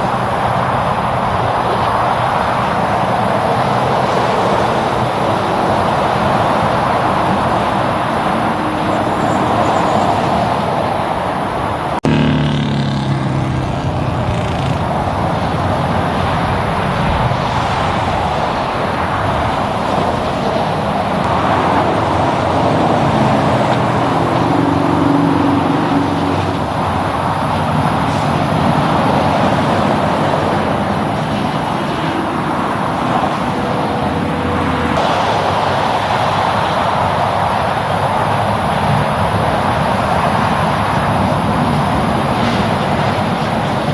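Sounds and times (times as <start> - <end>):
highway traffic rushing: 0.0 - 43.9.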